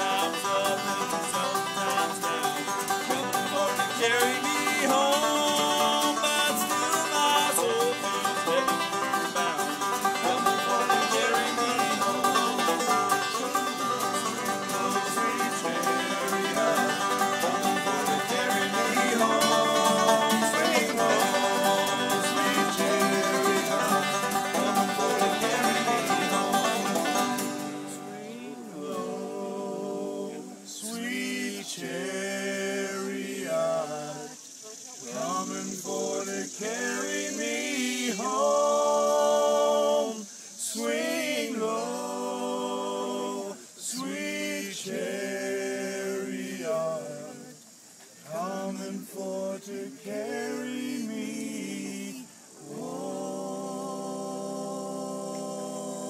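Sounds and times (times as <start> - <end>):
men singing bluegrass in harmony: 0.0 - 56.0.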